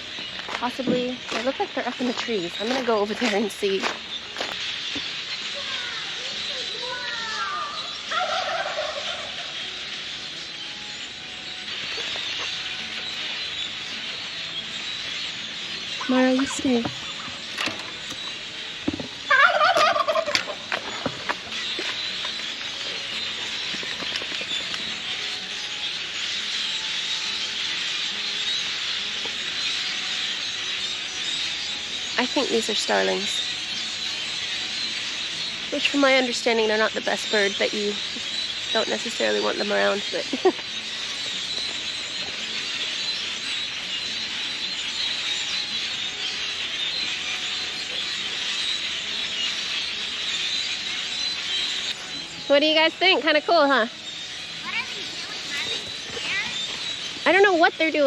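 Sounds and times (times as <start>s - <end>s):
flock of starlings chattering: 0.0s - 58.0s.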